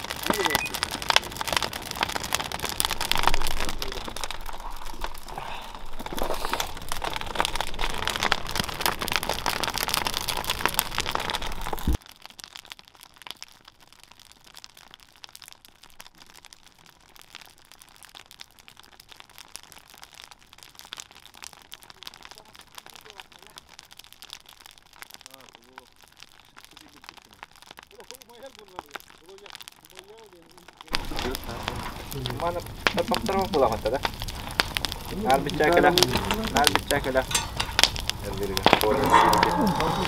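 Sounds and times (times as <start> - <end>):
bonfire crackling and popping: 0.0 - 40.0.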